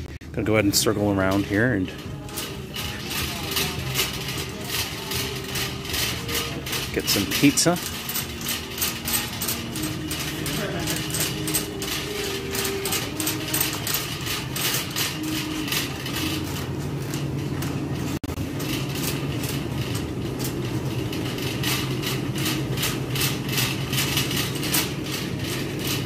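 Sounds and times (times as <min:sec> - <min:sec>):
shopping cart wheels rattling: 0:00.3 - 0:26.0.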